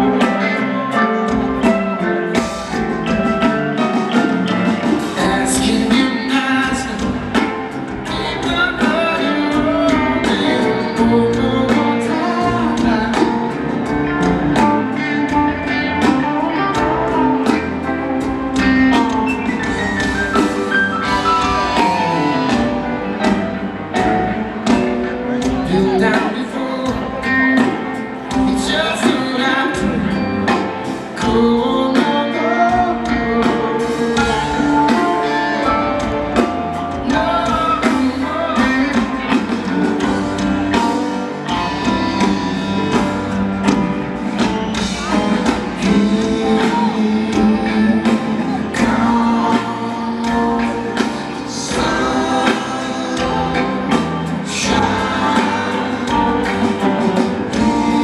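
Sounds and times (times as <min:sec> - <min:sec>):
drums: 0:00.0 - 0:58.0
electric guitars: 0:00.0 - 0:58.0
person singing: 0:00.0 - 0:58.0.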